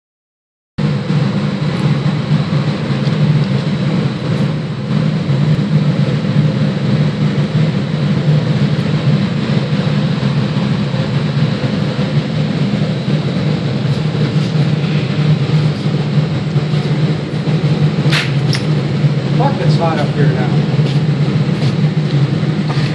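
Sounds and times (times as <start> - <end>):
crane engine droning: 0.8 - 22.9.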